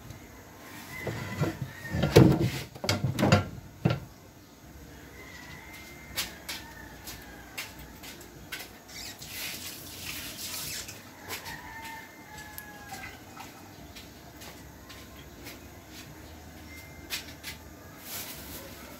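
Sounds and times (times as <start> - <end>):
faint rooster crowing: 0.1 - 2.7, 4.1 - 18.9.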